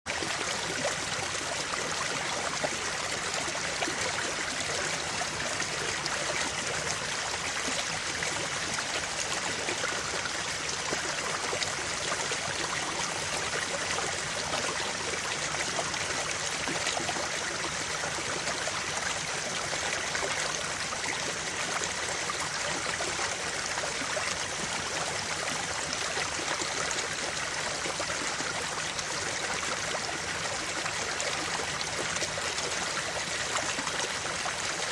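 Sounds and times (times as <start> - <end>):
creek water flowing over rocks: 0.1 - 34.9.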